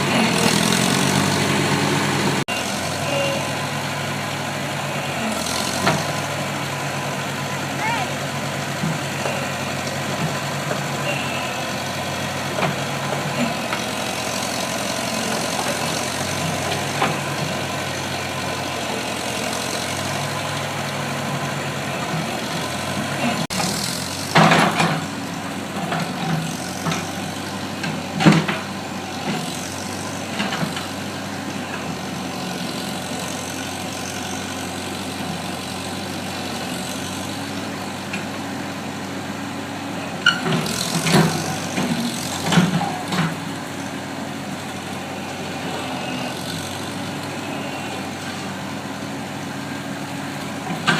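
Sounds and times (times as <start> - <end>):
backhoe engine idling: 0.0 - 50.9.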